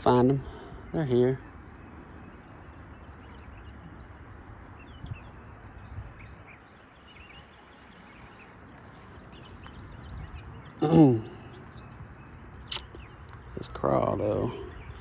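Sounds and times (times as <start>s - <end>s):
bird chirps: 0.0s - 13.3s.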